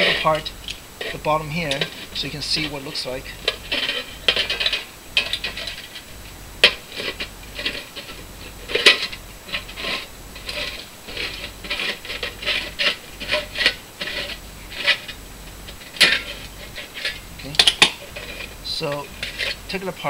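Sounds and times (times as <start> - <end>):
can opener rasping grinds: 0.0 - 19.8.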